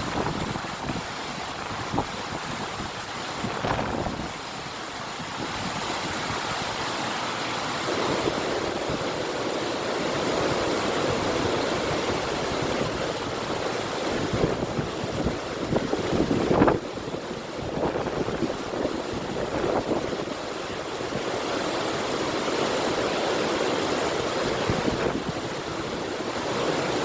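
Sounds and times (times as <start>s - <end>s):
river water rushing: 0.0s - 27.0s
wind blowing: 0.0s - 27.0s.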